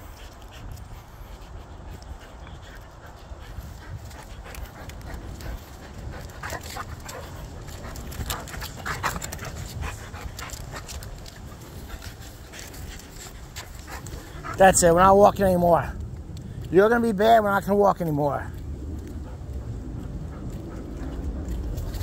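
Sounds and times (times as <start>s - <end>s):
dog panting: 0.0s - 16.0s, 18.0s - 22.0s
low rumble: 0.0s - 16.8s, 18.4s - 22.0s.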